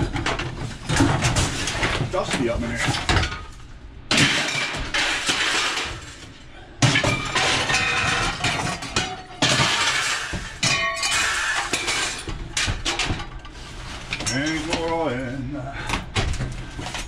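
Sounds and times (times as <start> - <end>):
scrap metal crashing and clanging: 0.0 - 15.4.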